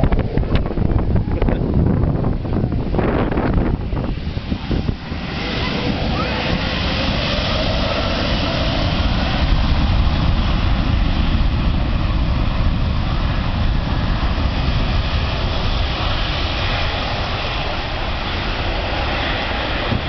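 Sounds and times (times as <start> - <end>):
jet engines at takeoff thrust: 0.0 - 20.0.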